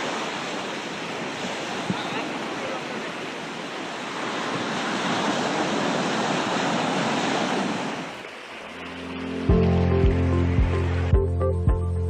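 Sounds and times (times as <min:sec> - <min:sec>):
water rushing: 0:00.0 - 0:11.4.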